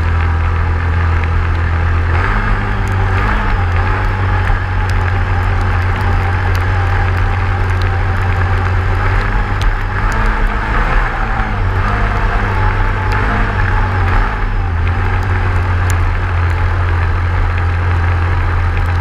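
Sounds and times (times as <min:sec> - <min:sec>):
atv engine droning: 0:00.0 - 0:19.0.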